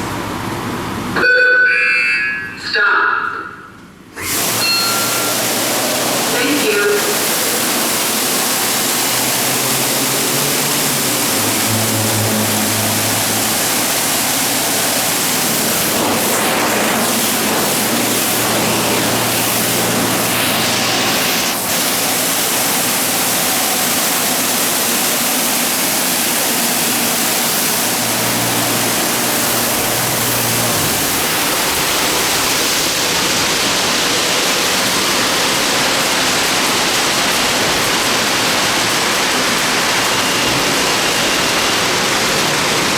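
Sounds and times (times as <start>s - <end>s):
low machine hum: 4.0s - 42.9s
spraying water rushing: 4.2s - 42.9s.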